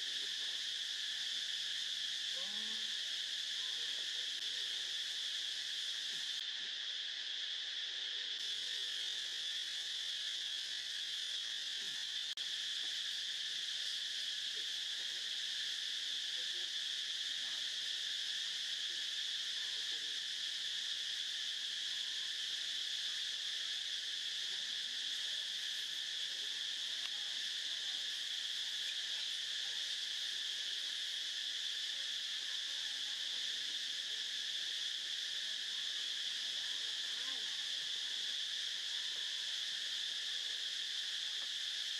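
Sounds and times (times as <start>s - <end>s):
insect chorus drone: 0.0s - 41.9s.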